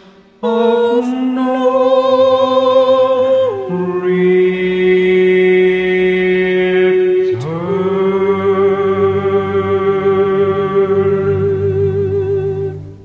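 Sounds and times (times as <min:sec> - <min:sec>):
duet singing over backing track: 0:00.0 - 0:13.0.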